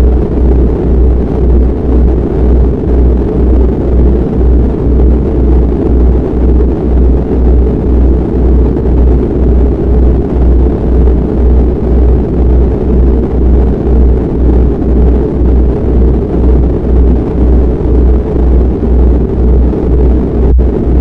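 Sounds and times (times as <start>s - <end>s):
deep pulsing hum: 0.0s - 21.0s
low rumble of noise: 0.0s - 21.0s.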